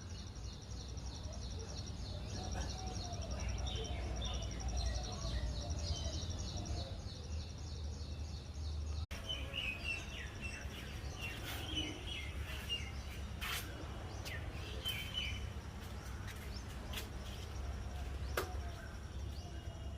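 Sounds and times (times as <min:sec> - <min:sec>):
birds chirping and calling: 0:00.0 - 0:19.9.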